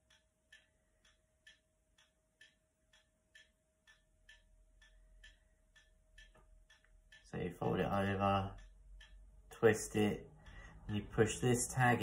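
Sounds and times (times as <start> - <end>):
clock-like ticking: 0.0 - 12.0.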